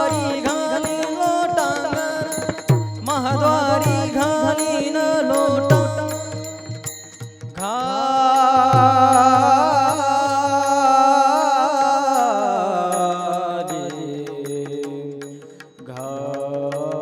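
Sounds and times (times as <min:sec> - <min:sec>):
percussion strikes: 0:00.0 - 0:17.0.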